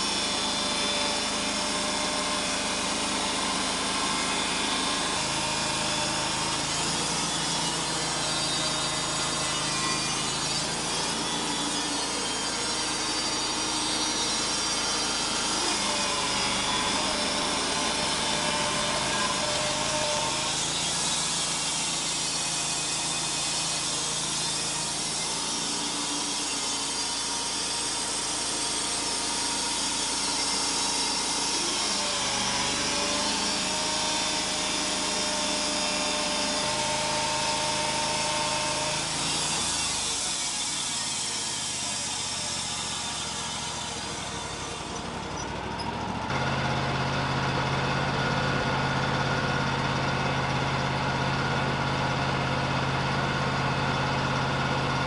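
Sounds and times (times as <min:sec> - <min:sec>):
band sawmill cutting log: 0:00.0 - 0:55.0
saw whine: 0:00.0 - 0:55.0.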